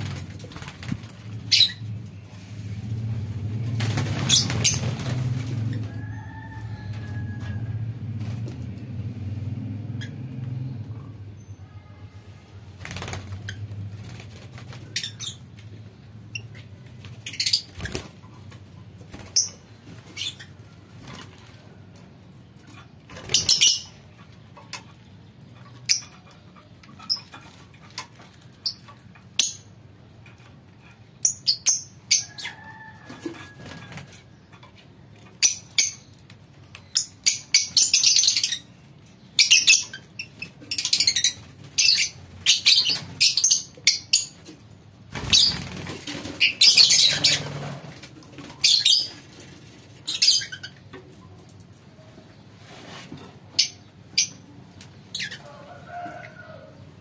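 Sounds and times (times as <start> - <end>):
lovebirds chirping and squawking: 0.0 - 2.3, 3.8 - 7.5, 9.9 - 57.0.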